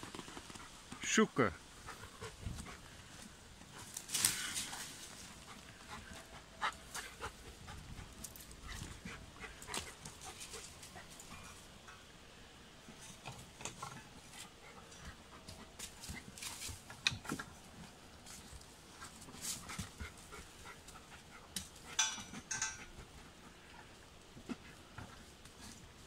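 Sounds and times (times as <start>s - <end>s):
pawing at dirt and dry leaves: 0.0s - 12.1s, 12.8s - 26.0s.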